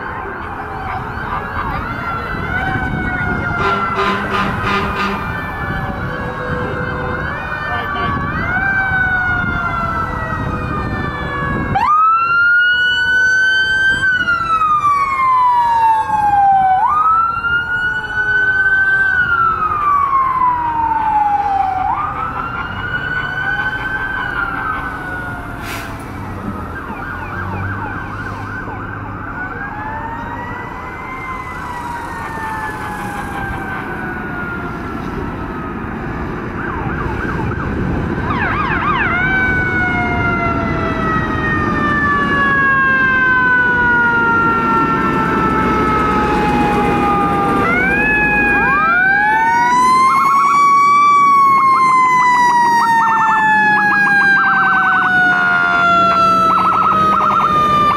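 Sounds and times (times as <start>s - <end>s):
emergency vehicle sirens wailing: 0.0s - 57.9s.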